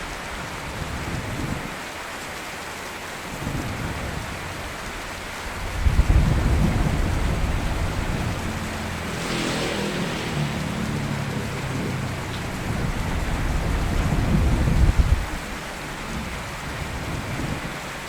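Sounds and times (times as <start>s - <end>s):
rain falling: 0.0s - 18.0s
thunder rumbling: 3.4s - 18.0s.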